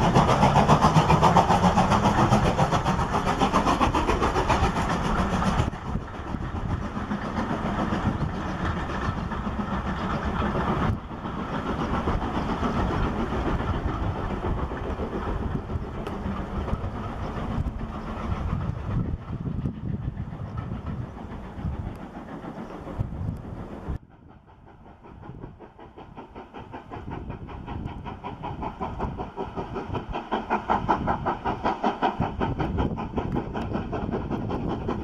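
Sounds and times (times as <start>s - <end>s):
steam locomotive exhaust beats: 0.0s - 35.0s
train coaches rolling on rails: 0.0s - 35.0s.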